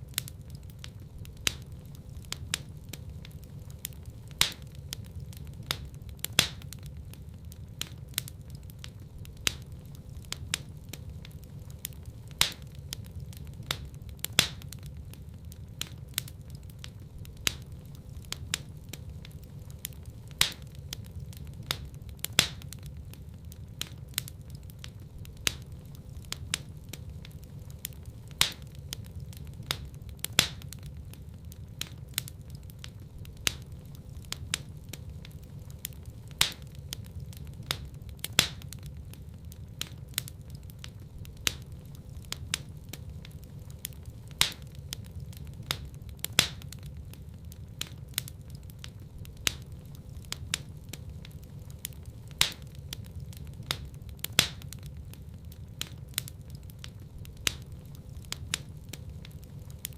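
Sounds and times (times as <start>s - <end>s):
low rumble of burning fire: 0.0s - 59.9s
wood fire popping and snapping: 0.0s - 59.9s.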